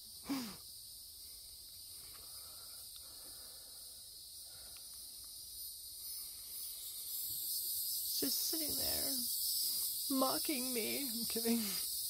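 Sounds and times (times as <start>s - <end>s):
insects singing shrill drone: 0.0s - 12.0s.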